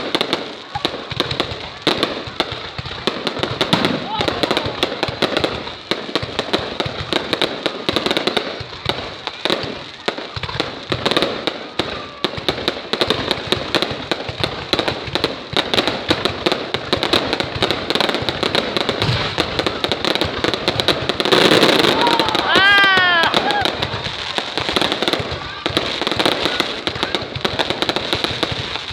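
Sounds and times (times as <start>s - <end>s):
firecrackers popping rapidly: 0.0s - 28.9s.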